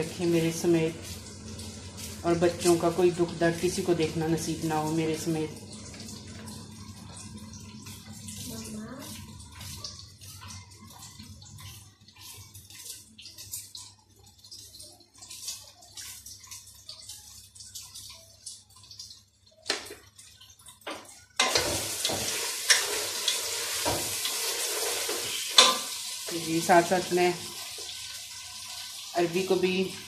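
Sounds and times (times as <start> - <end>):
food frying in hot oil: 0.0 - 30.0.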